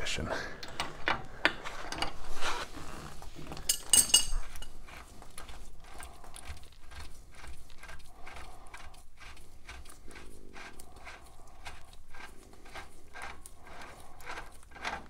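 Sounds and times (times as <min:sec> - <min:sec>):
clicking and scraping of nut: 0:00.6 - 0:15.0.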